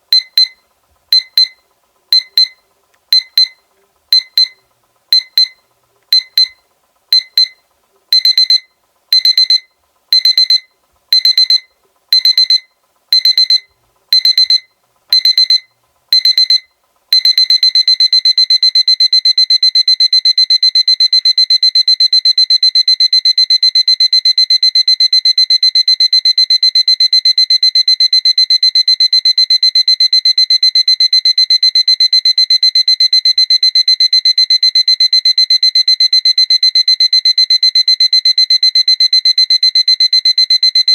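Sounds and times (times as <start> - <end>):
alarm clock beeping: 3.2 - 3.6, 4.2 - 4.6, 5.2 - 6.6, 8.2 - 40.9.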